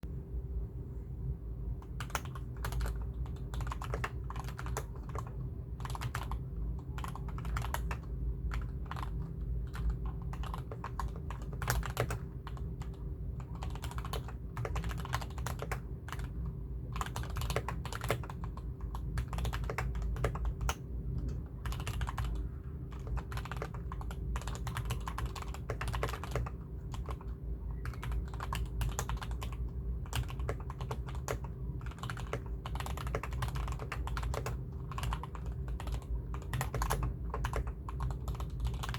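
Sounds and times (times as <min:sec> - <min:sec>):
steady low hum: 0:00.0 - 0:38.9
fast typing on mechanical keyboard: 0:01.9 - 0:38.9.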